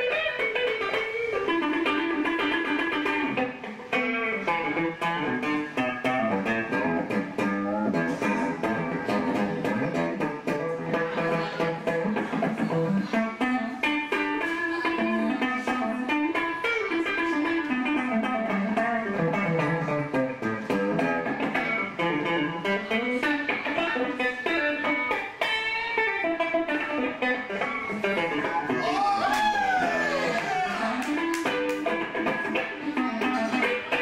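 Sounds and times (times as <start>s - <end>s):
electric guitar single notes: 0.0s - 34.0s.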